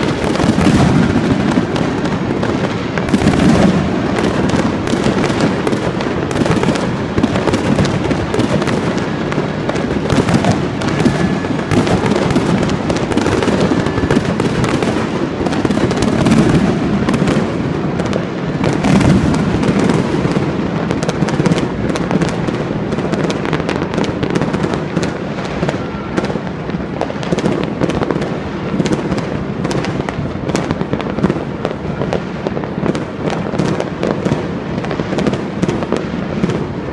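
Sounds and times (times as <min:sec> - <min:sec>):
fireworks barrage of bangs and crackle: 0:00.0 - 0:36.9.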